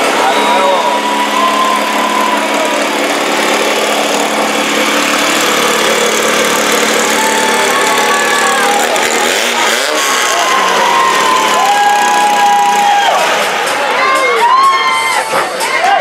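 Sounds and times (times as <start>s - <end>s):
car engine running at low speed: 0.0s - 13.4s.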